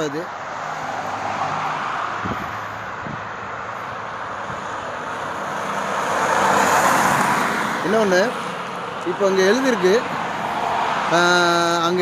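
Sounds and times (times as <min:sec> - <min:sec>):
car tyre and road noise: 0:00.0 - 0:12.0.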